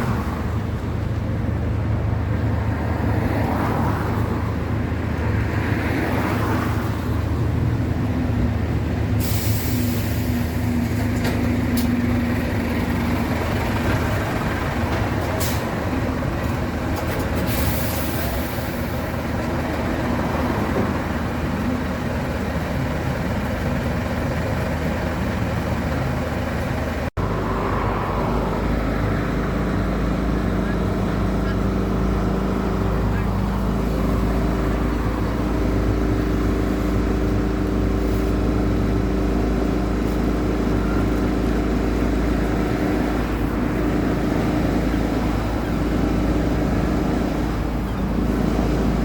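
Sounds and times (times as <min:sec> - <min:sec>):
large engine humming: 0:00.0 - 0:49.0.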